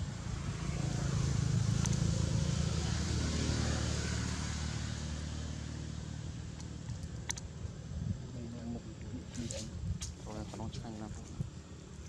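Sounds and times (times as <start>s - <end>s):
passing vehicle engine rumble: 0.0s - 9.9s.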